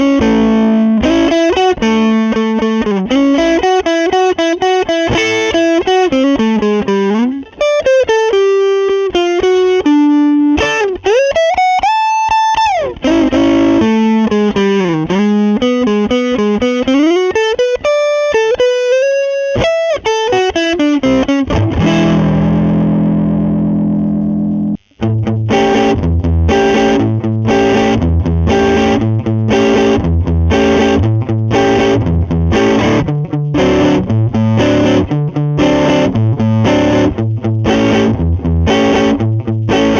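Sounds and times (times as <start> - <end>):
electric guitar lead lines: 0.0 - 39.9
overdriven guitar chords: 0.0 - 39.9.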